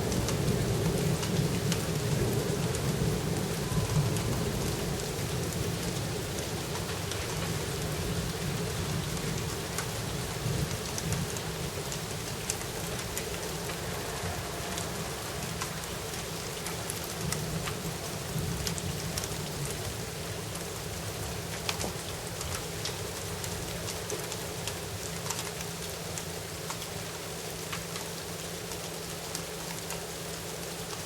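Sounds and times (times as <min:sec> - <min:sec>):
raindrops ticking on surface: 0:00.0 - 0:31.0
steady rain falling: 0:00.0 - 0:31.0.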